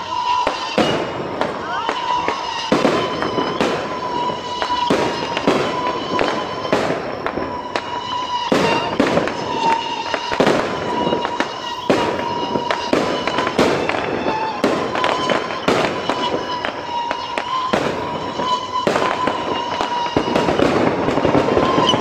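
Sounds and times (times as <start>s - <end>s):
firework bangs: 0.0s - 22.0s
firework crackling: 0.0s - 22.0s.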